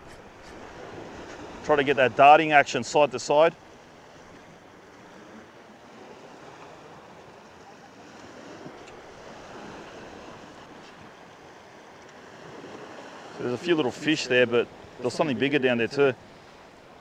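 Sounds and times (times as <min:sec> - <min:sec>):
sea washing against rock: 0:00.0 - 0:17.0.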